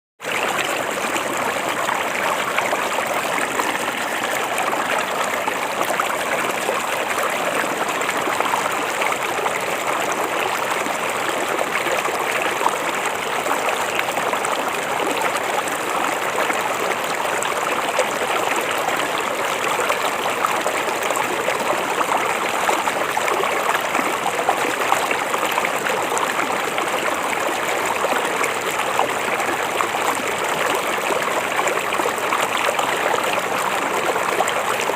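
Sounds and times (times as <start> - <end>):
river water flowing: 0.2 - 34.9.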